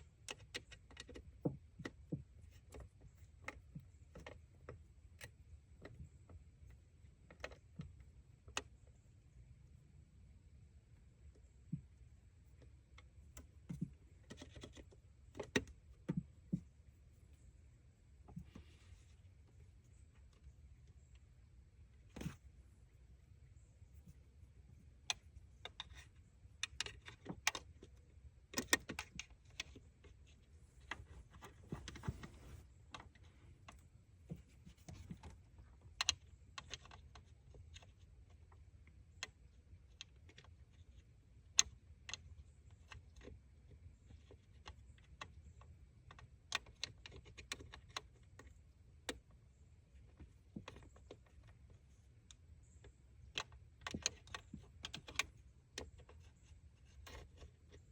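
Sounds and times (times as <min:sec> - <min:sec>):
faint low hum: 0:00.0 - 0:57.9.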